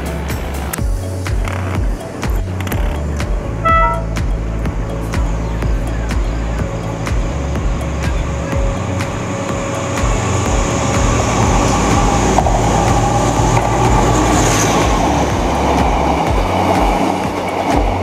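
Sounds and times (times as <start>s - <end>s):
train carriage rumble and wheel clatter: 0.0s - 18.0s
passing train rushing past: 3.5s - 18.0s.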